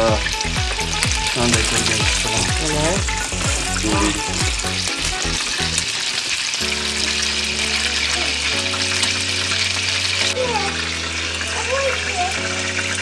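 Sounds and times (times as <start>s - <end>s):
background music with low notes: 0.0s - 13.0s
burger frying in oil: 0.0s - 13.0s.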